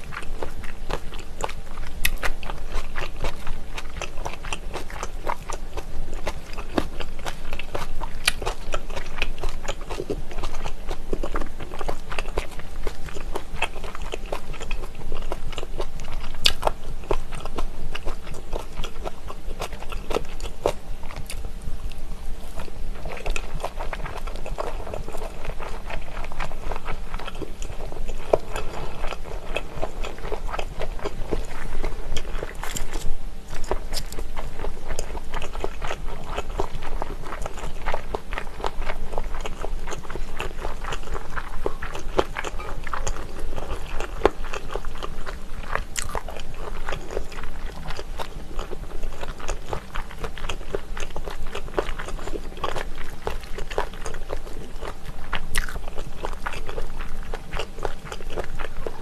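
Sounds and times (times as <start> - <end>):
close chewing with mouth clicks: 0.0 - 59.0.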